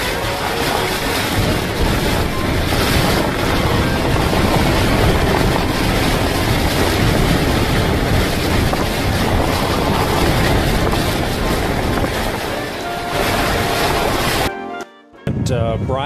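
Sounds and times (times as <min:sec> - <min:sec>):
hurricane wind buffeting microphone: 0:00.0 - 0:14.5, 0:15.3 - 0:16.0.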